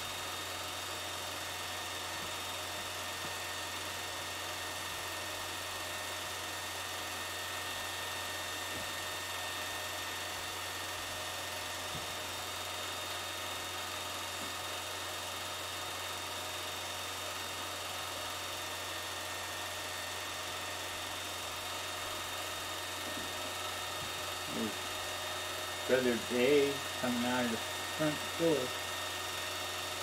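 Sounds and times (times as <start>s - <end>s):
film projector whirring: 0.0s - 30.0s.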